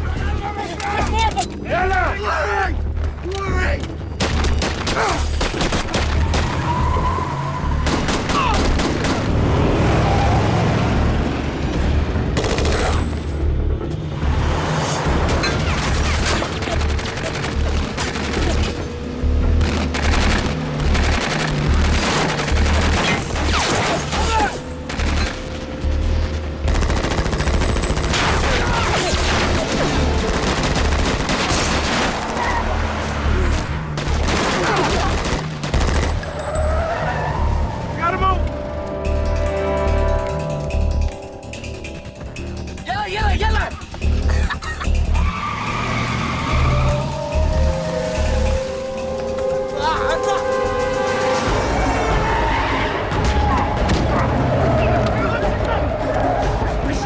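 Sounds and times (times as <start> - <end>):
tense film score music: 0.0 - 57.0.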